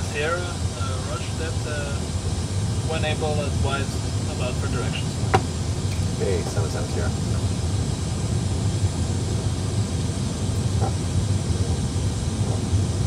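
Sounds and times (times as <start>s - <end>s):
cockpit rumble and hiss: 0.0s - 13.0s.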